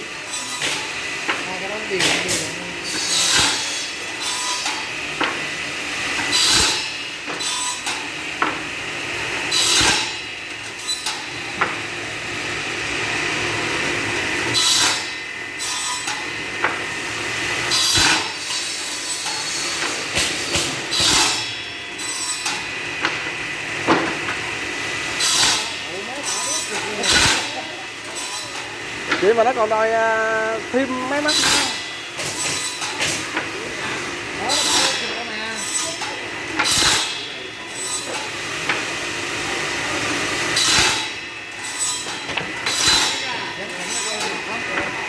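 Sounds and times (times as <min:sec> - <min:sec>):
saw blades cutting wood: 0:00.0 - 0:08.3, 0:09.2 - 0:12.7, 0:13.4 - 0:45.0.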